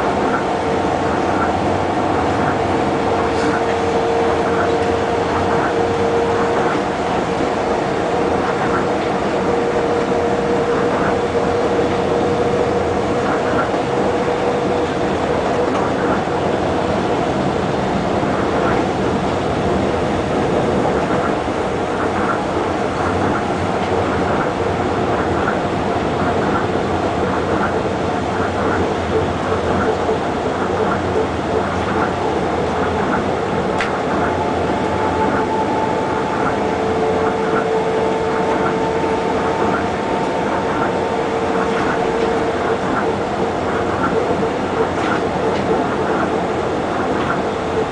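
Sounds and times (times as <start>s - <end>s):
constant humming tone: 0.0s - 47.9s
steady whine: 0.0s - 47.9s
vehicle rumble: 0.0s - 47.9s.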